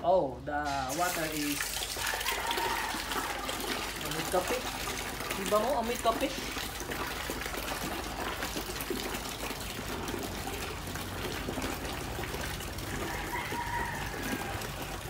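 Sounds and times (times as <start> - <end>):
tap water pouring into bucket: 0.9 - 15.0.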